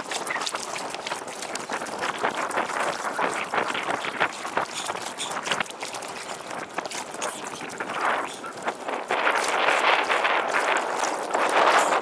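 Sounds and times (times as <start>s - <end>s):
water splashing against boat: 0.0s - 12.0s
wind on microphone: 0.0s - 12.0s.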